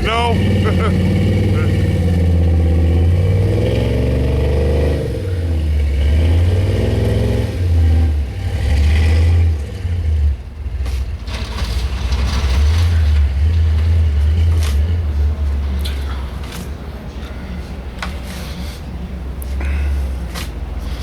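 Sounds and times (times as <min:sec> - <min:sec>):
truck engine revving: 0:00.0 - 0:17.6.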